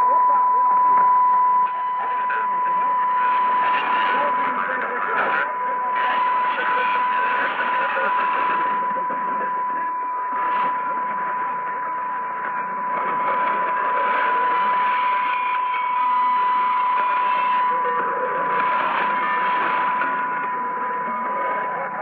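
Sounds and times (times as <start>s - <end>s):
faint radio station audio: 0.0s - 22.0s
radio hiss and static: 0.0s - 22.0s
steady radio whistle: 0.0s - 22.0s.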